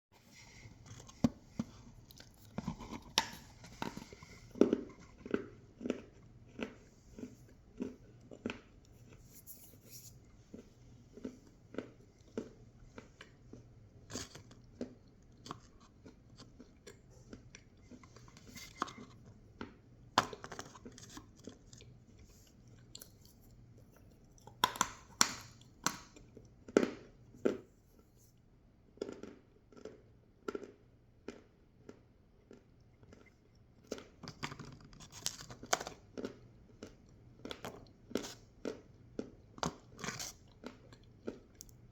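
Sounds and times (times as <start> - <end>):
person chewing crunchy food: 0.3 - 27.7, 28.9 - 41.9.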